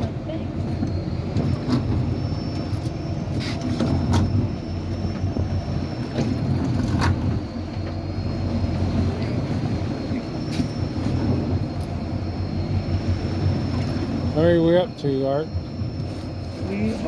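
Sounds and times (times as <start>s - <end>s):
boat motor rumbling: 0.0s - 17.0s.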